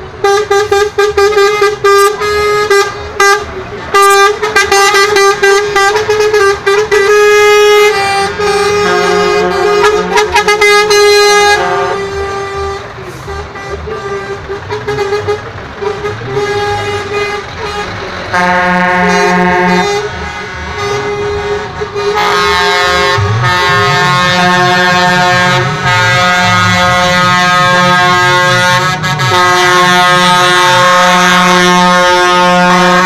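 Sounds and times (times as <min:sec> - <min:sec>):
truck air horns tooting: 0:00.0 - 0:33.0
truck diesel engines rumbling: 0:00.0 - 0:33.0.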